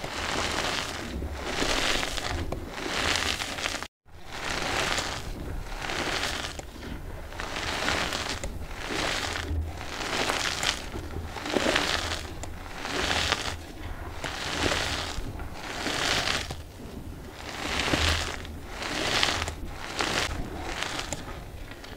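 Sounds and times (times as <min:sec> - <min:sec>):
hands crumbling chalk: 0:00.0 - 0:21.9.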